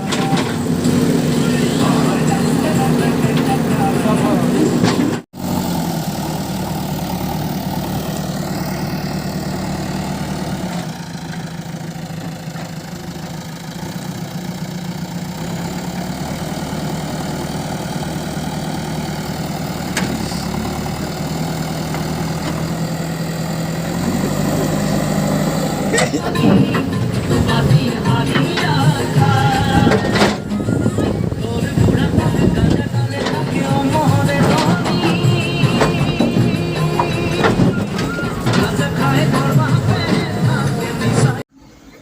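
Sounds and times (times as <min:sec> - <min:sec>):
heavy vehicle engine idling: 0:00.0 - 0:42.0.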